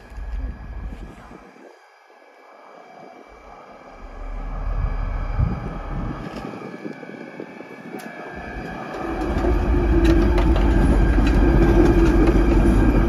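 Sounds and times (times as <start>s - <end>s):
locomotive engine drone: 0.0s - 1.5s, 2.4s - 13.0s.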